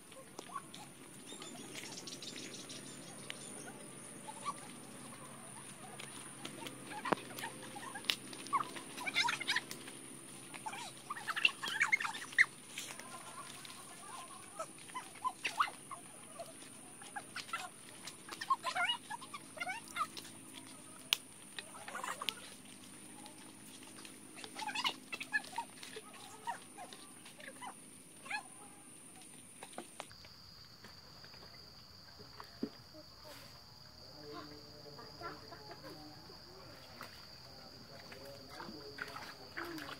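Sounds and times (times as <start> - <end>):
footsteps in wet mud: 0.0 - 32.8, 36.2 - 39.9.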